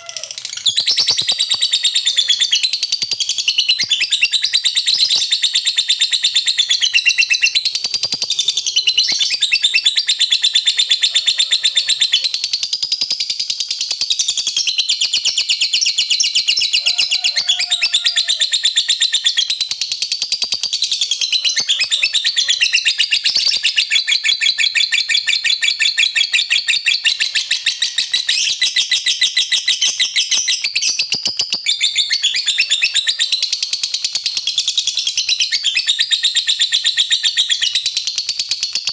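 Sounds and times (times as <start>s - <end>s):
lovebird singing rapid chatter: 0.0s - 38.9s.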